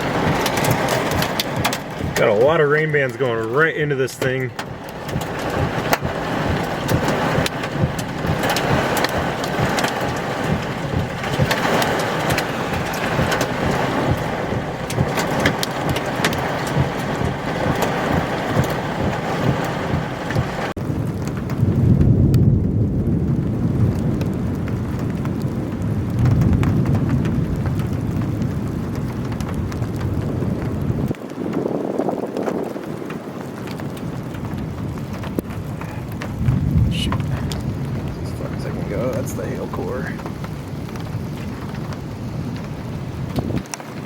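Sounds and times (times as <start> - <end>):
low rumble: 0.0 - 31.2, 33.0 - 43.6
heavy rain pelting a vehicle: 0.0 - 44.0.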